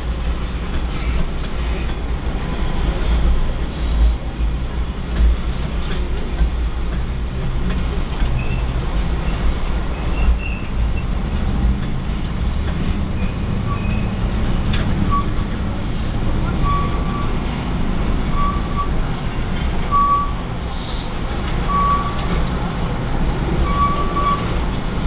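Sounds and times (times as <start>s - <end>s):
freight cars rolling rumble: 0.0s - 25.0s.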